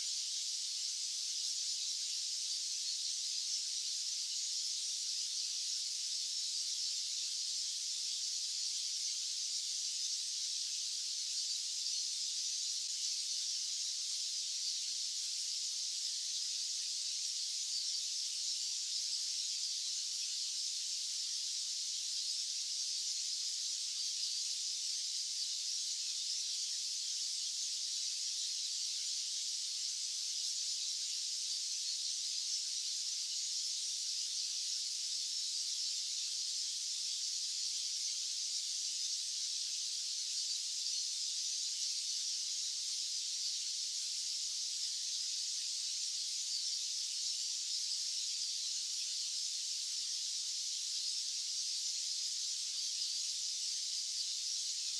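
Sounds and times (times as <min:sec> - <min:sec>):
white noise hiss: 0:00.0 - 0:54.9.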